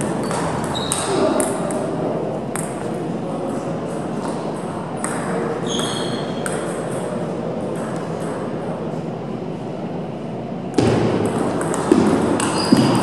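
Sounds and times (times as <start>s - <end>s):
sports hall hum: 0.0s - 13.0s.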